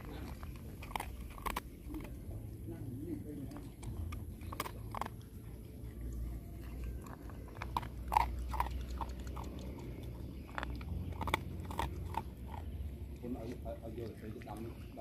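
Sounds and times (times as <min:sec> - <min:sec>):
dog crunching dry kibble: 0:00.0 - 0:14.9.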